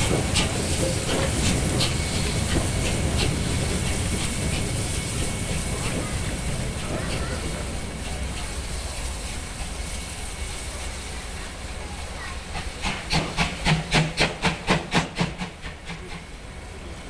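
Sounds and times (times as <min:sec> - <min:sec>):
steam hissing: 0:00.0 - 0:17.0
steam locomotive chuffing: 0:00.0 - 0:17.0.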